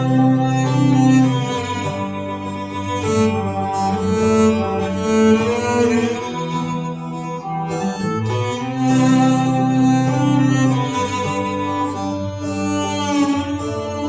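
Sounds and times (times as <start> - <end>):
bowed strings with cello melody: 0.0 - 14.0.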